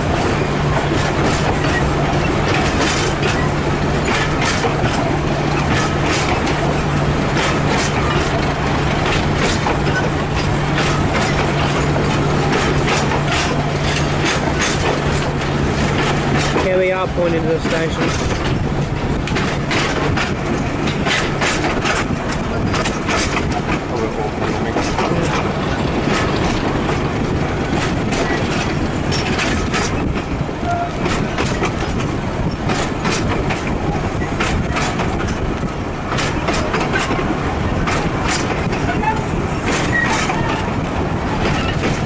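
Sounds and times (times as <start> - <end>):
train rumbling: 0.0 - 42.0
wheels clattering over rail joints: 0.0 - 42.0.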